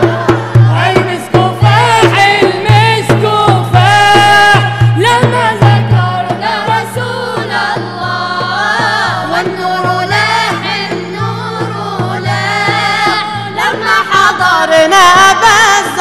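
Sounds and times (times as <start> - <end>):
low drum beat: 0.0 - 14.0
group singing in chorus: 0.0 - 16.0.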